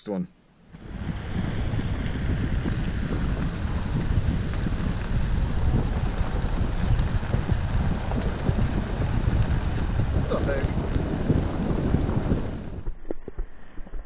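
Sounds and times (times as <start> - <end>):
wind buffeting microphone: 0.6 - 13.1.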